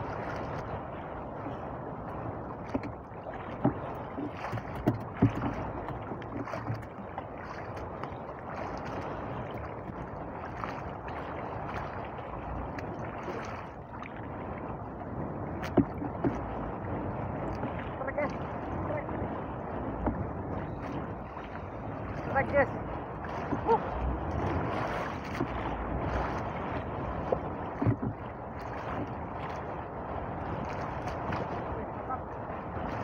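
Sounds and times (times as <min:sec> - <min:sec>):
water slapping against boat hull: 0:00.0 - 0:33.0.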